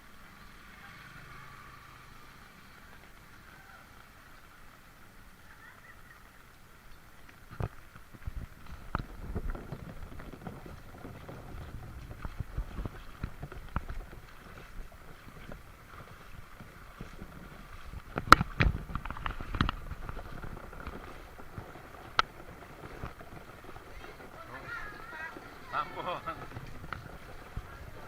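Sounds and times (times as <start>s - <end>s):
footsteps splashing through water: 0.2s - 28.0s.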